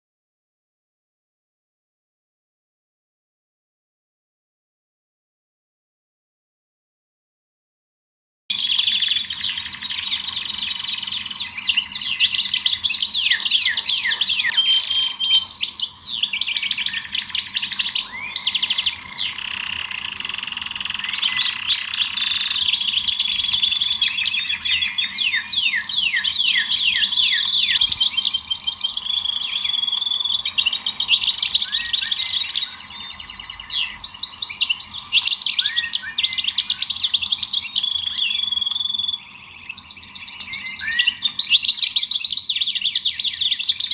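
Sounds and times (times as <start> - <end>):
songbirds chirping and singing: 8.5 - 43.9.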